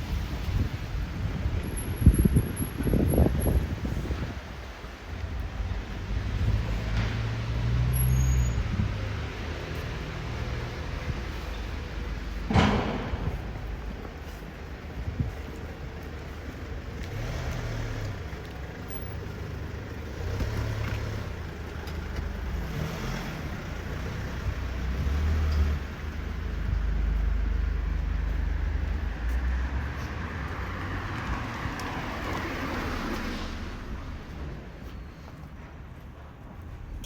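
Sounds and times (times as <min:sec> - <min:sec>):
car engine rumbling: 0:00.0 - 0:37.0
street traffic noise: 0:00.0 - 0:37.0.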